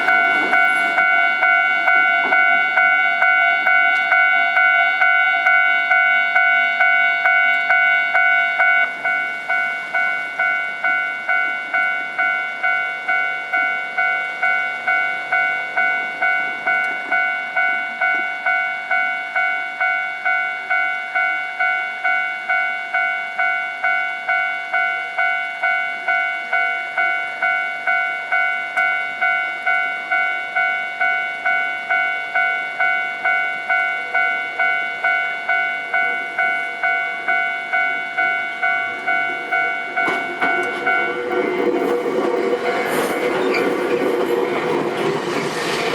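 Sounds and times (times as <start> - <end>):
level crossing warning bell: 0.0 - 45.9.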